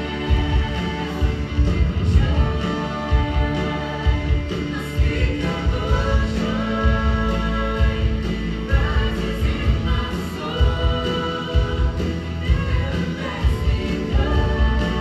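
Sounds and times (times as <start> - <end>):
live band and singers: 0.0 - 15.0
steady drum beat: 0.0 - 15.0.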